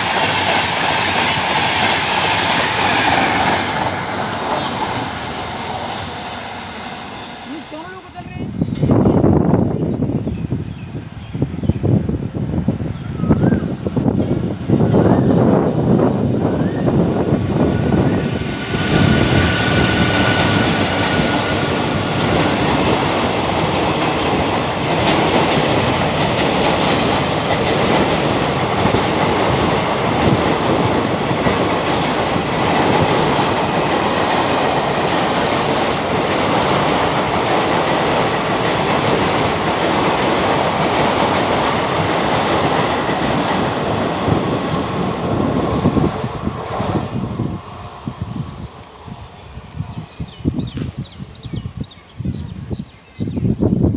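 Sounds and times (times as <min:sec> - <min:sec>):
train wheels on rails: 0:00.0 - 0:53.9.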